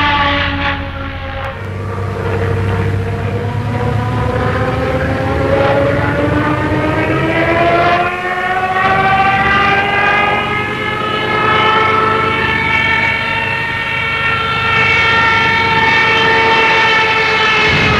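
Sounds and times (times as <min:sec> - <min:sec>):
low rumble: 0:00.0 - 0:15.9
siren wailing: 0:00.0 - 0:17.9.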